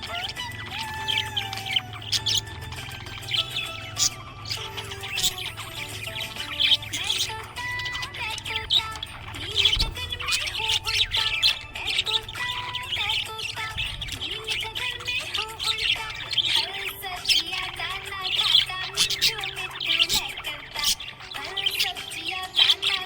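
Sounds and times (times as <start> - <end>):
background music: 0.0 - 20.8
budgies chirping and chattering: 0.0 - 23.0.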